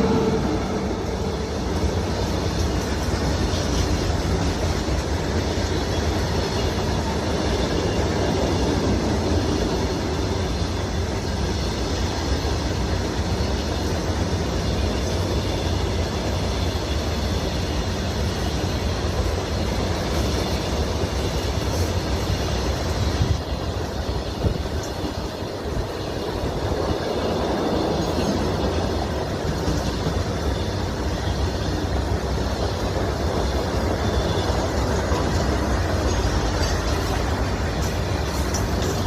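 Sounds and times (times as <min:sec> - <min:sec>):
freight train wheels rumbling on track: 0:00.0 - 0:39.0.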